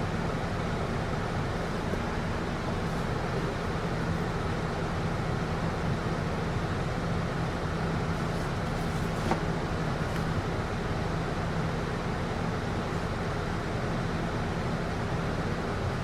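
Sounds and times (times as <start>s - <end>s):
bus engine hum: 0.0s - 16.0s.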